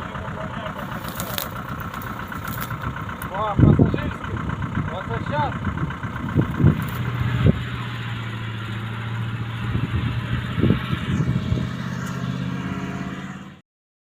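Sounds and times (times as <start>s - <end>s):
vehicle engine running: 0.0s - 13.6s.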